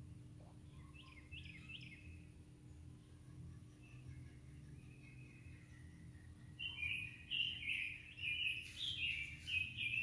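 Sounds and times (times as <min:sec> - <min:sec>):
low steady hum: 0:00.0 - 0:10.0
bird chirping song: 0:00.4 - 0:10.0.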